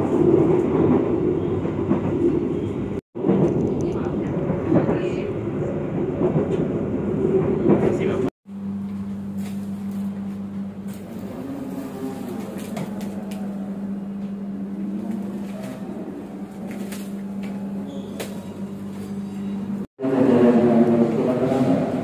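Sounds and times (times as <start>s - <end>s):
low train equipment hum: 0.0s - 22.0s.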